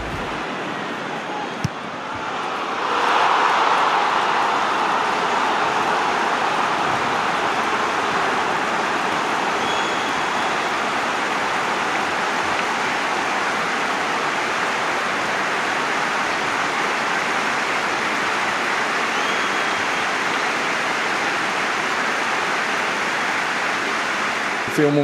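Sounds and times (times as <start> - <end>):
crowd cheering: 0.0 - 25.0.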